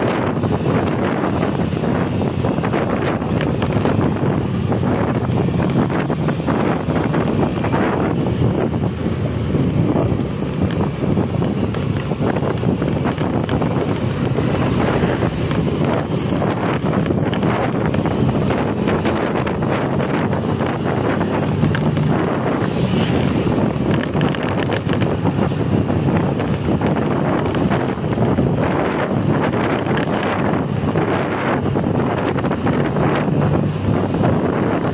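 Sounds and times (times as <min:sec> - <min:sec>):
vehicle engine and road noise: 0:00.0 - 0:34.9
wind buffeting microphone: 0:00.0 - 0:34.9.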